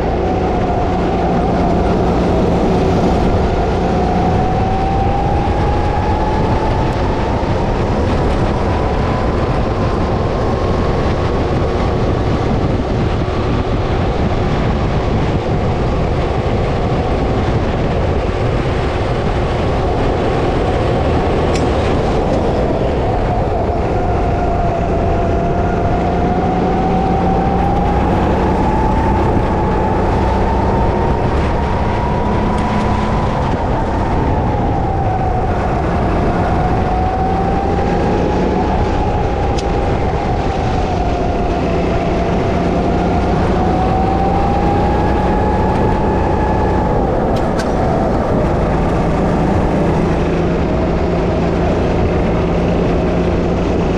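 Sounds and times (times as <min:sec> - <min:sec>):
go-kart engine whine: 0:00.0 - 0:53.9.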